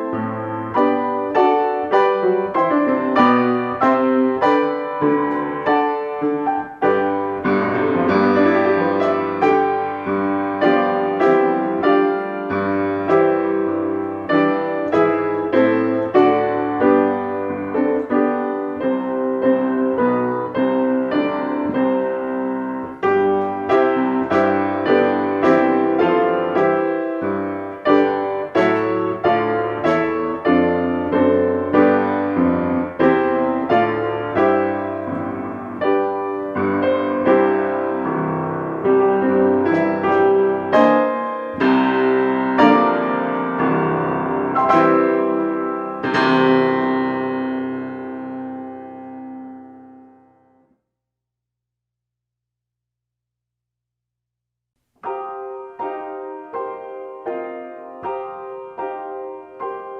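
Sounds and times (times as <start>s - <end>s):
solo piano melody: 0.0s - 50.8s, 54.9s - 59.9s.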